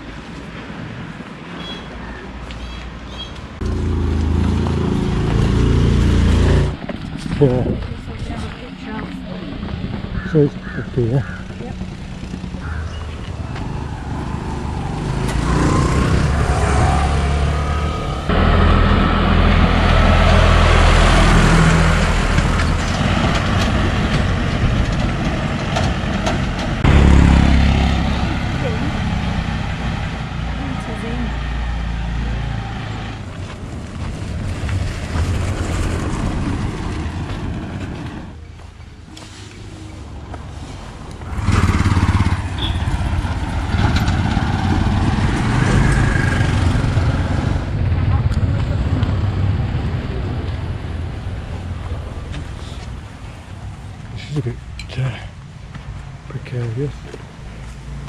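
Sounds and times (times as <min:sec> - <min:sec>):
road noise: 0:00.0 - 0:58.0
wind: 0:00.0 - 0:58.0
truck engine passing: 0:03.0 - 0:54.6.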